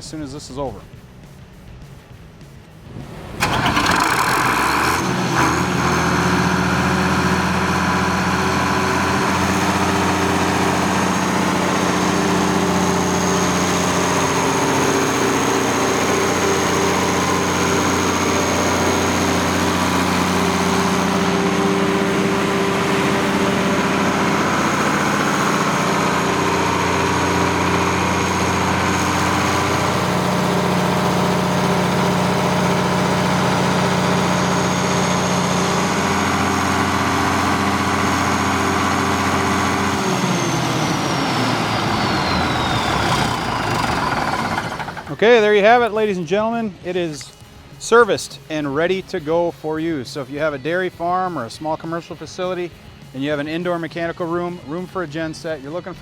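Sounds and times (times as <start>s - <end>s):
high whine: 0.0s - 56.0s
diesel generator engine running: 2.7s - 51.0s.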